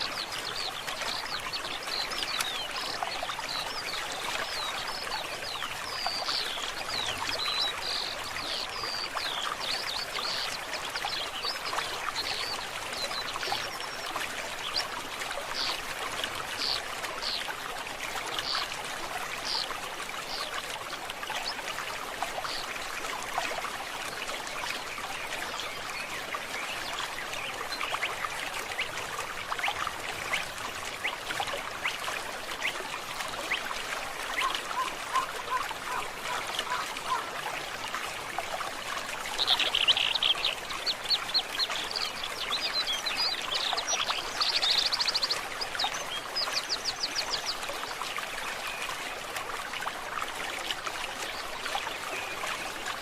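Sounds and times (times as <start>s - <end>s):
stream water babbling: 0.0s - 53.0s.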